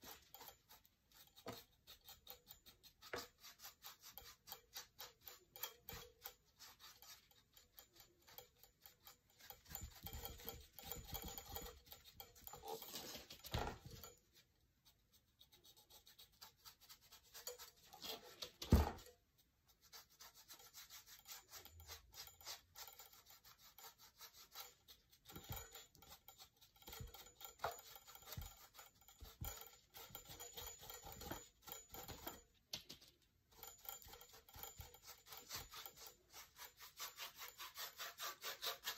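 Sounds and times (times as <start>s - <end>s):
paintbrush scratching on textured surface: 0.0s - 38.9s.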